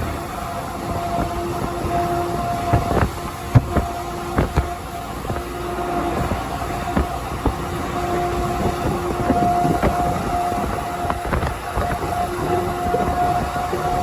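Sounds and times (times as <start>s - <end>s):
road noise rumble: 0.0s - 14.0s
truck horn blasts: 0.0s - 14.0s.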